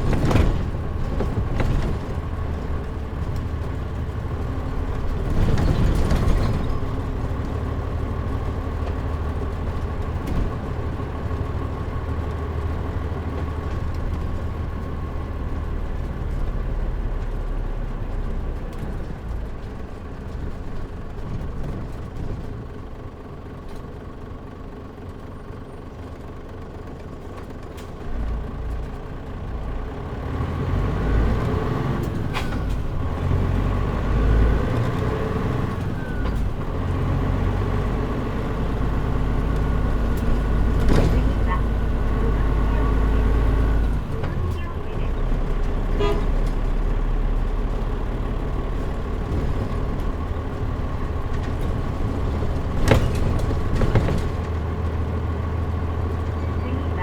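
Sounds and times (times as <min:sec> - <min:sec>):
low thumps and rattles: 0:00.0 - 0:24.0, 0:32.0 - 0:56.4
bus diesel engine droning: 0:00.0 - 0:57.0.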